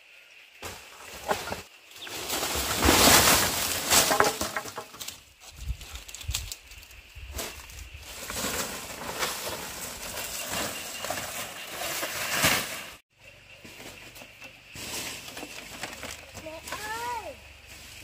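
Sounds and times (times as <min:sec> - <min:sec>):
outdoor ambience: 0:00.0 - 0:18.0
dry thatch rustling: 0:00.6 - 0:18.0.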